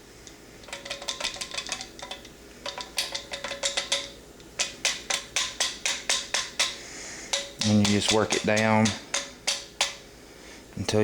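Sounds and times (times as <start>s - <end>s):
metal band clinking on rifle barrel: 0.6s - 10.0s.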